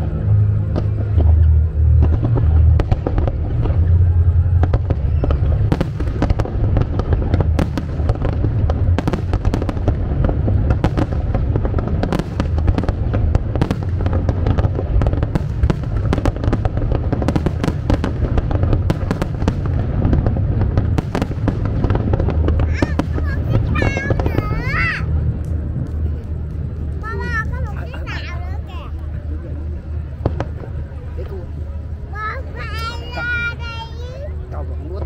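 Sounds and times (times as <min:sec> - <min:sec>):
fireworks bangs and crackles: 0:00.0 - 0:35.0
low rumble: 0:00.0 - 0:35.0.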